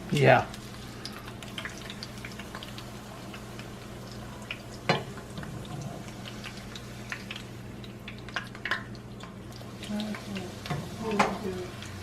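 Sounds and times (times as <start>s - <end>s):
hot oil crackling in frying pan: 0.0s - 12.0s.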